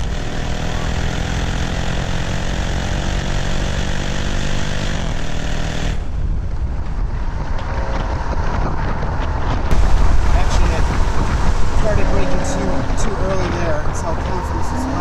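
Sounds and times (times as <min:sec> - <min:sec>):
car engine running hard: 0:00.0 - 0:15.0
wind and road noise: 0:00.0 - 0:15.0.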